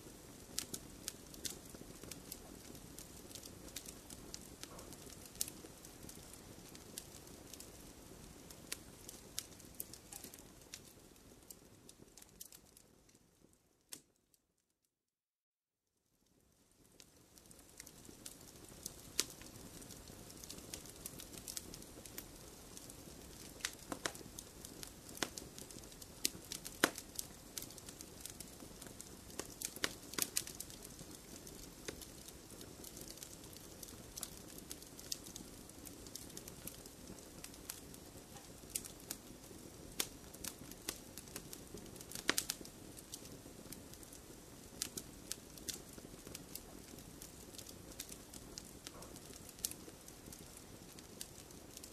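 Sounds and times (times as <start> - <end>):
wood fire crackling and popping: 0.0 - 14.2, 16.3 - 51.9.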